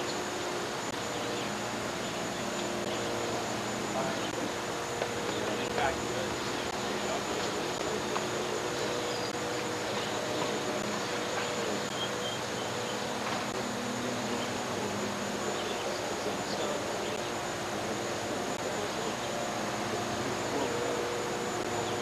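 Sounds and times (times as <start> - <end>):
faint low hum: 0.0 - 22.0
thin high whine: 0.0 - 22.0
videotape hiss: 0.0 - 22.0.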